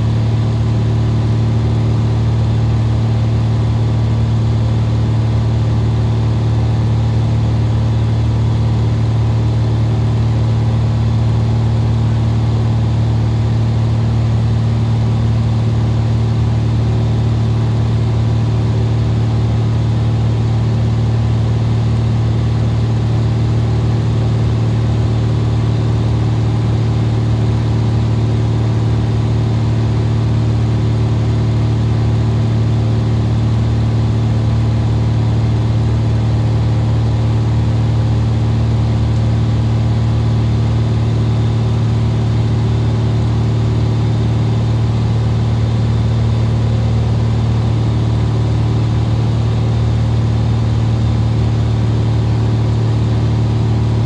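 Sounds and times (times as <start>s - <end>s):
airplane engine droning in cabin: 0.0s - 54.0s.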